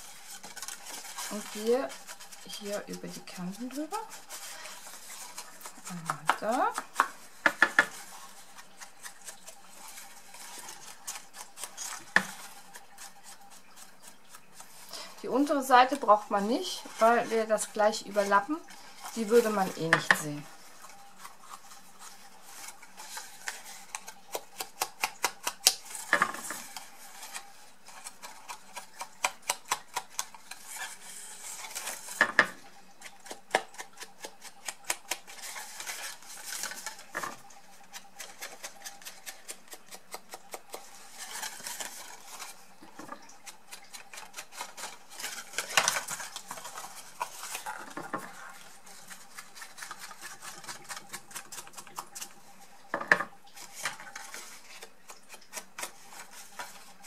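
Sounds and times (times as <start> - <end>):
card rustling: 0.0 - 32.3, 33.2 - 52.8.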